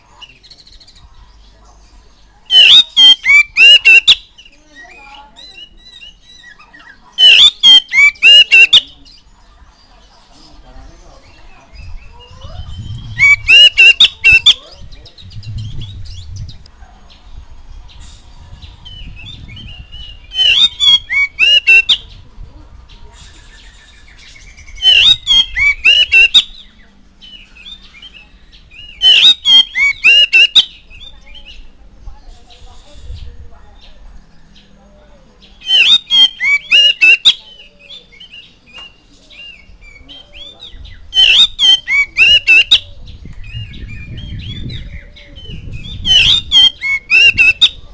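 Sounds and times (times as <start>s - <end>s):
bird chirping and singing: 0.0s - 47.9s.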